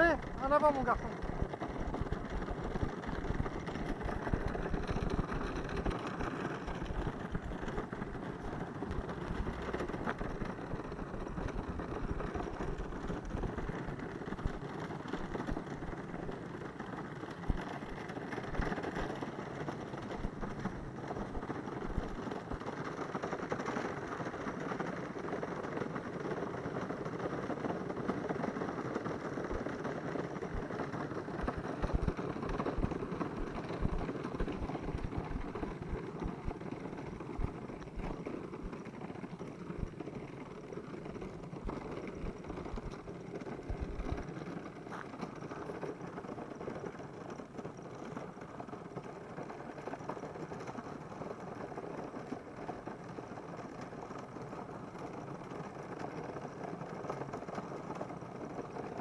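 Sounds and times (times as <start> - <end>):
cart wheels rolling on asphalt: 0.0 - 59.0.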